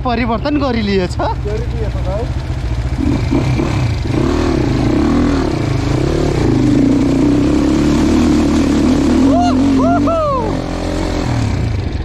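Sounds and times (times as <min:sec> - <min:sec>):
dirt bike engine revving: 0:01.2 - 0:12.0.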